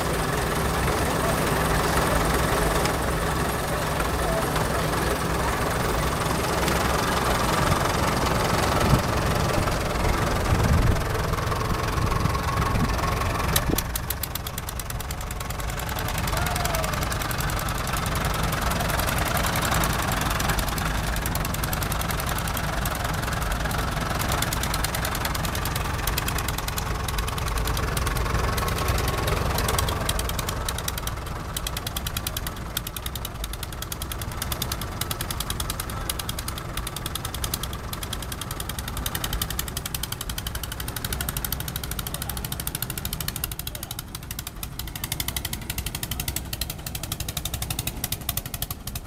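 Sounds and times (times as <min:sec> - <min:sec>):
tractor engine knocking: 0:00.0 - 0:49.0.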